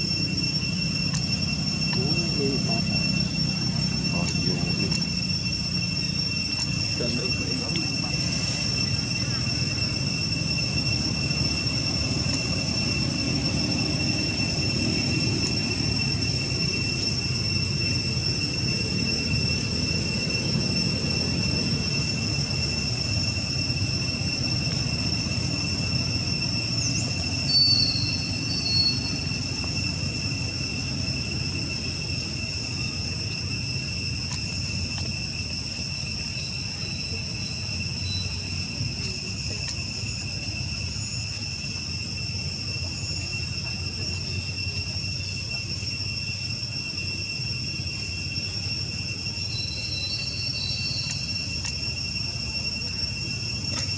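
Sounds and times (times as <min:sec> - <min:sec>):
high-pitched insect drone: 0:00.0 - 0:53.9.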